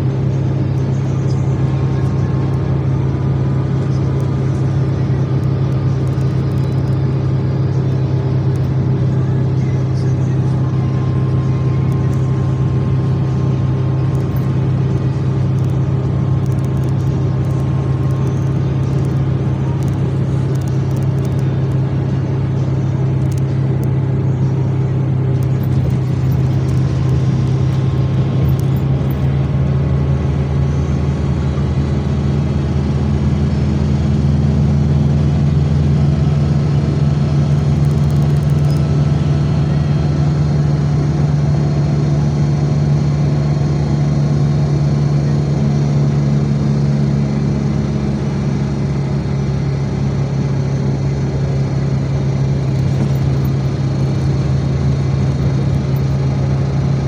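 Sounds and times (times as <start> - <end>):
road noise: 0.0 - 57.0
vehicle engine running: 0.0 - 57.0.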